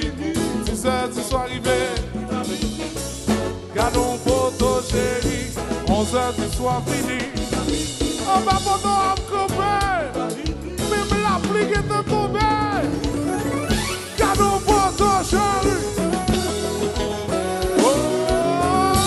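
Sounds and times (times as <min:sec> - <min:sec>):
person singing: 0:00.0 - 0:13.4, 0:14.0 - 0:19.0
congas: 0:00.0 - 0:19.0
drum kit: 0:00.0 - 0:19.0
electric guitars: 0:00.0 - 0:19.0
keyboard: 0:00.0 - 0:19.0.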